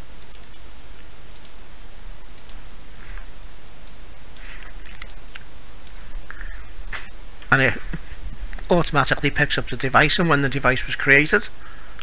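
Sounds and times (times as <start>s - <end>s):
microphone hiss and hum: 0.0s - 12.0s.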